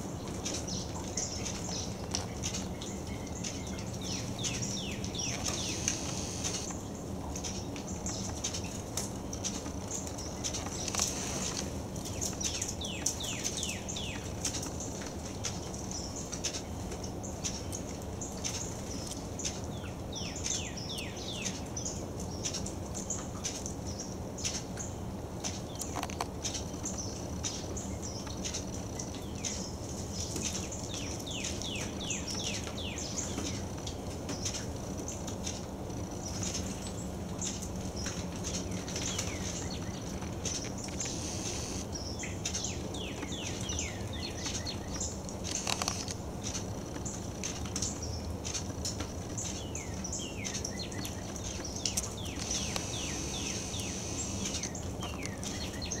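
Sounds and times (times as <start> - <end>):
low background noise: 0.0 - 56.0
songbirds chirping: 0.0 - 56.0.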